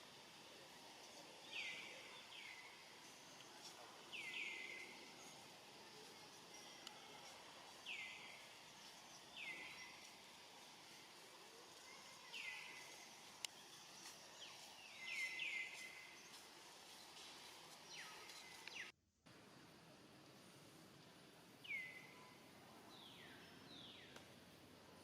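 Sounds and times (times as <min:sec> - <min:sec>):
faint outdoor background: 0:00.0 - 0:25.0.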